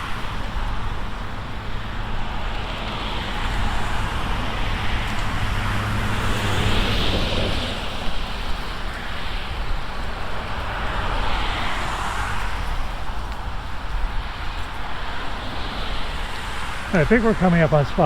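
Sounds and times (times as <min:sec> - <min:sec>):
cars passing by: 0:00.0 - 0:18.0
wind rumble on microphone: 0:00.0 - 0:18.0.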